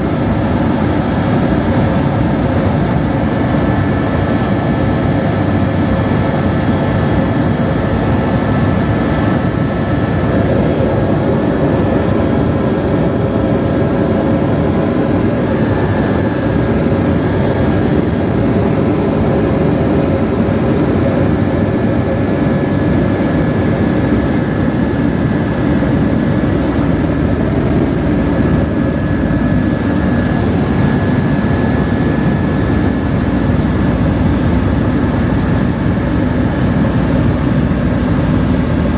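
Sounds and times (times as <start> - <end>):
helicopter engine and rotor rumble: 0.0 - 38.9.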